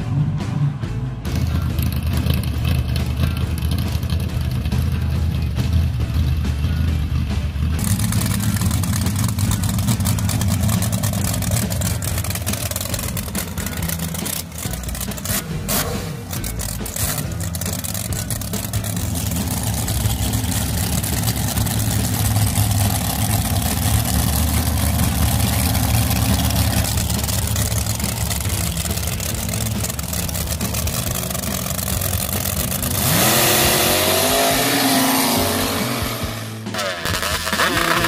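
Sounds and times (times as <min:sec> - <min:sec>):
engine running at low revs: 0:00.0 - 0:38.0
engines revving full throttle: 0:00.0 - 0:38.0.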